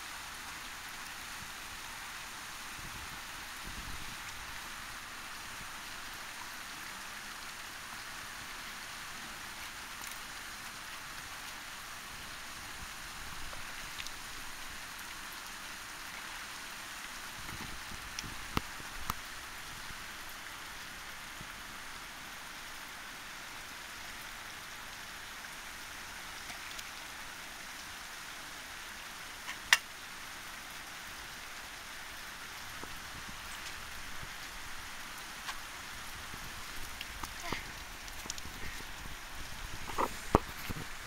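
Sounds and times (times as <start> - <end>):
rain-like background hiss: 0.0 - 41.0.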